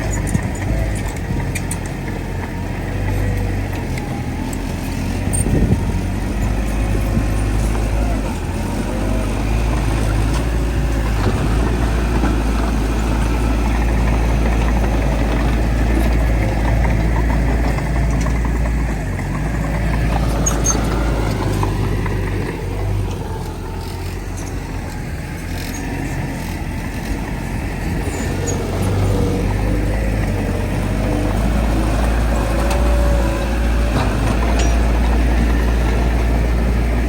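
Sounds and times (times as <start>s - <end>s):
heavy diesel engine rumbling: 0.0s - 37.0s.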